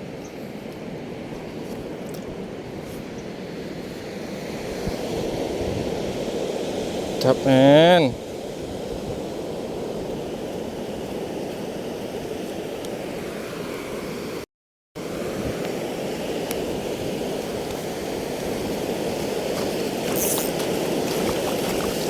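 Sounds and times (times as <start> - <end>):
sea surf rushing: 0.0 - 14.4, 15.0 - 22.0
wind: 0.0 - 22.0.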